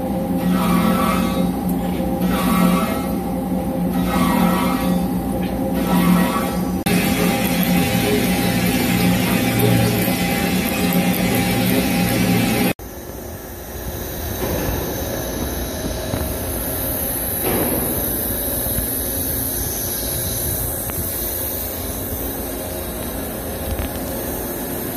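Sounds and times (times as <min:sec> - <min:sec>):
machine shop background noise: 0:00.0 - 0:24.9.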